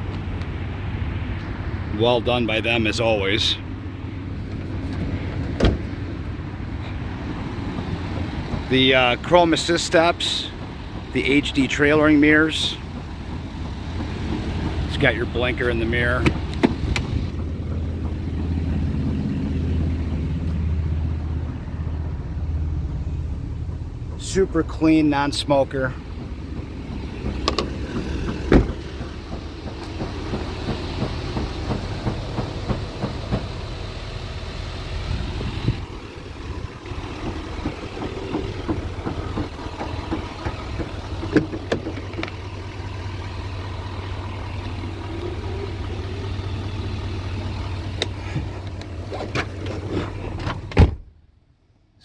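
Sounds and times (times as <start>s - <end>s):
diesel truck engine idling: 0.0s - 52.0s.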